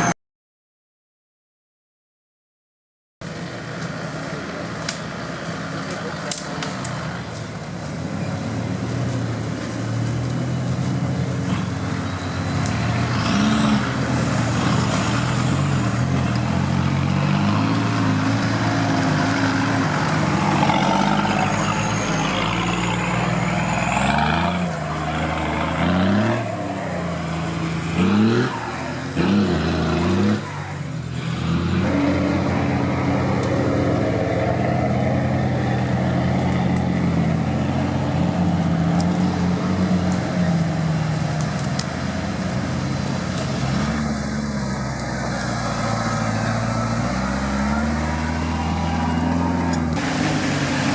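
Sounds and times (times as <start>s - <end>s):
off-road vehicle engine revving: 3.4s - 50.9s.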